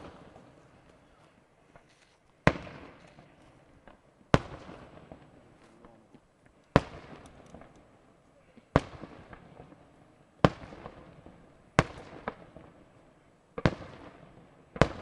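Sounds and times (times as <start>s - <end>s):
fireworks bursting with echo: 0.0s - 6.1s, 6.7s - 7.8s, 8.7s - 15.0s.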